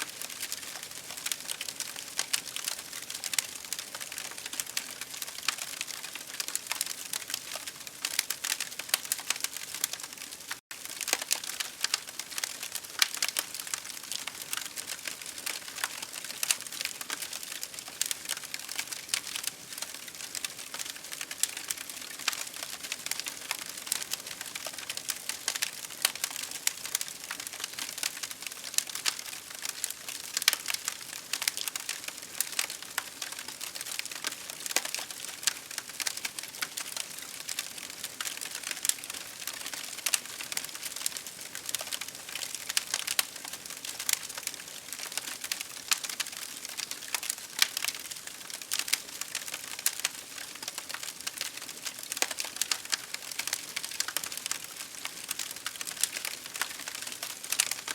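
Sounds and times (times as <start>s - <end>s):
campfire crackling: 0.0s - 57.9s.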